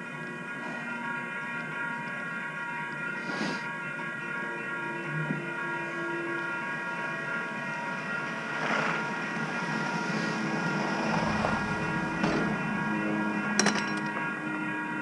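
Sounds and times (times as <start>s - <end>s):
electric train whine: 0.0s - 15.0s
rumbling rail noise: 0.0s - 15.0s.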